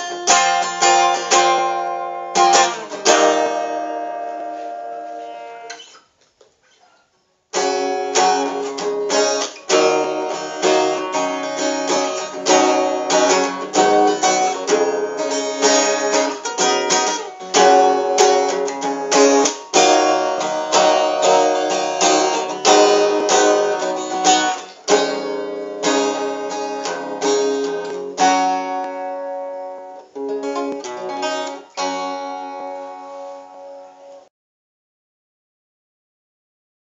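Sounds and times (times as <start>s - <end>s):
acoustic guitar strummed in chords: 0.0s - 6.0s, 7.5s - 34.3s.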